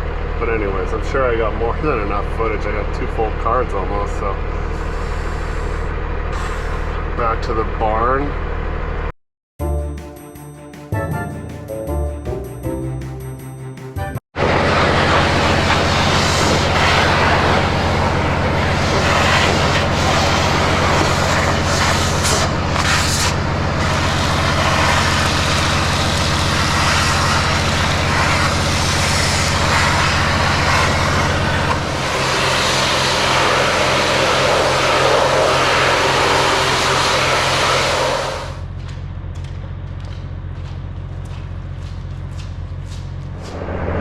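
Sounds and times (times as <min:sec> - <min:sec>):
road and drivetrain noise: 0:00.0 - 0:09.2, 0:14.4 - 0:44.0
diesel truck engine running: 0:00.0 - 0:09.9, 0:14.4 - 0:44.0.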